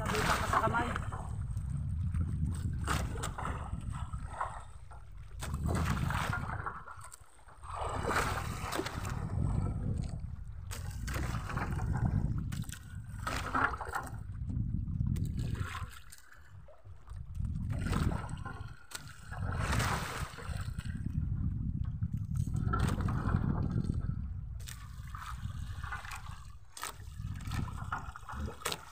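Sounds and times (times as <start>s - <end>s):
water splashing against boat hull: 0.0s - 28.9s
wind buffeting microphone: 0.0s - 28.9s.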